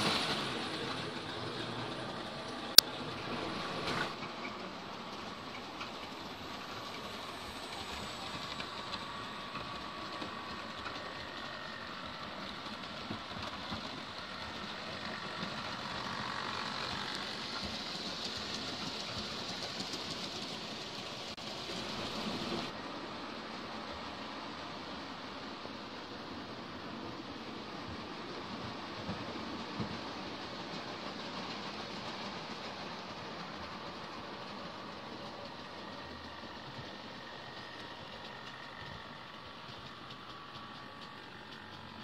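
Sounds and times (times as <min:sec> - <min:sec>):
model train motors whirring: 0:00.0 - 0:42.0.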